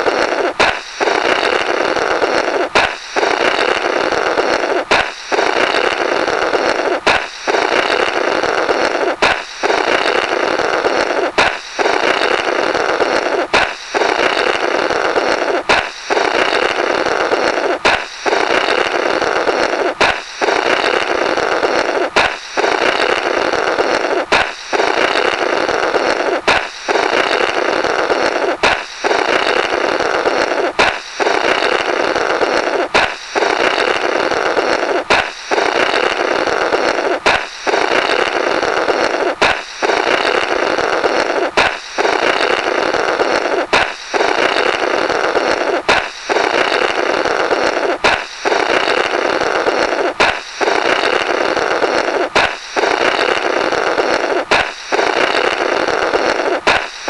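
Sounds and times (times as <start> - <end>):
cartoon balloon pop and rasp: 0.0 - 57.0.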